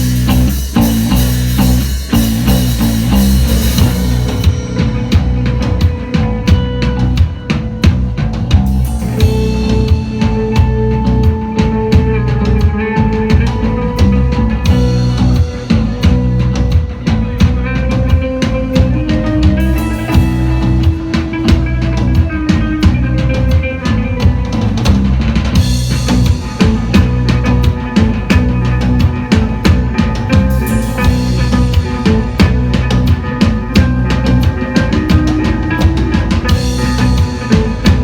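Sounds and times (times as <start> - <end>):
live band playing: 0.0 - 38.0.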